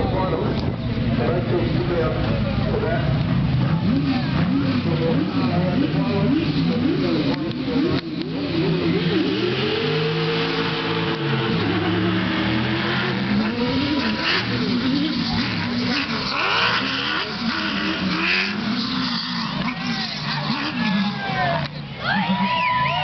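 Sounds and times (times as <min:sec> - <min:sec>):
racing engines revving: 0:00.0 - 0:23.0.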